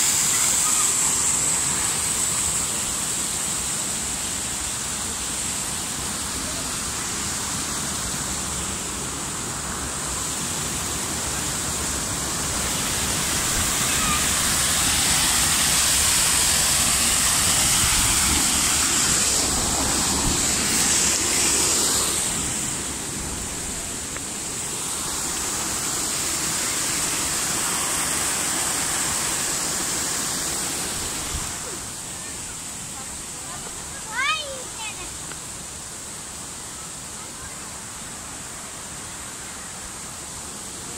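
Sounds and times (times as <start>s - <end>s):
stream tumbling over stones: 0.0s - 36.0s.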